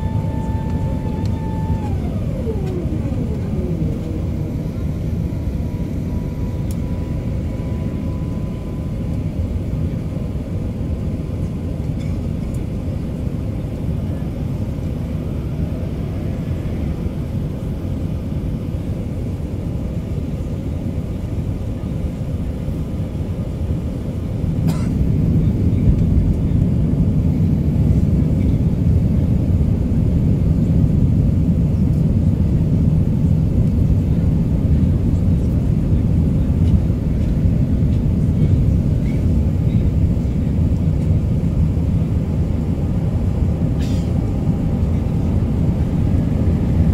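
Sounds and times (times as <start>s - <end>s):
aircraft cabin engine rumble: 0.0s - 46.9s.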